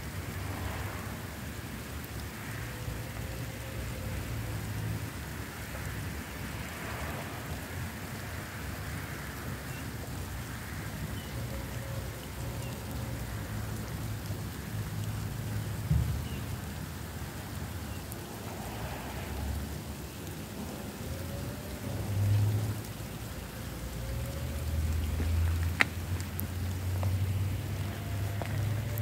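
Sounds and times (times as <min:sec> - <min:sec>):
rain on wet pavement: 0:00.0 - 0:29.0.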